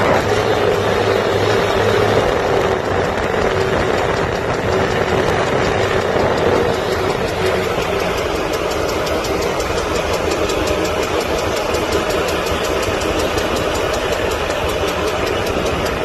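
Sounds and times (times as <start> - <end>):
car engine and road noise: 0.0 - 16.0
faint even ticking: 0.2 - 16.0.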